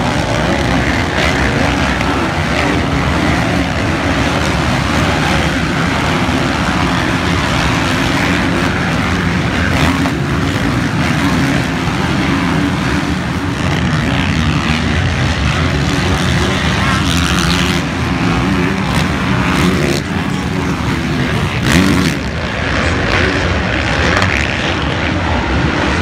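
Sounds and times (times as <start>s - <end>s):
dirt bike engines racing past: 0.0s - 26.0s.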